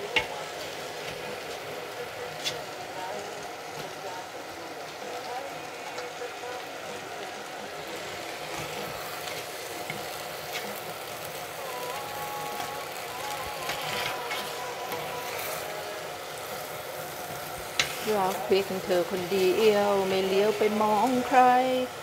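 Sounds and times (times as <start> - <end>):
chicken sizzling in a pot: 0.0 - 22.0.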